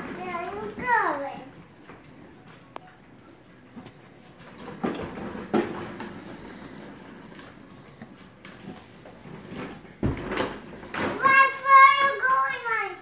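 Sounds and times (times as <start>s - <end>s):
plastic wheels rolling on floor: 0.0s - 12.7s.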